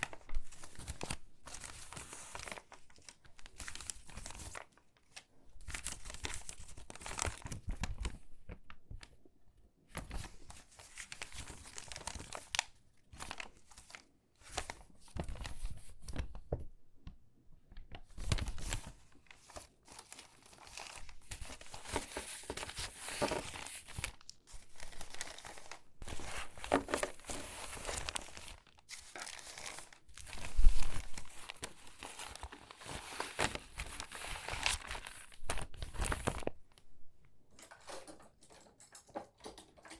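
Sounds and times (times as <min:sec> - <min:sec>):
paper pages rustling and crackling: 0:00.0 - 0:09.1, 0:09.9 - 0:16.6, 0:17.7 - 0:36.8.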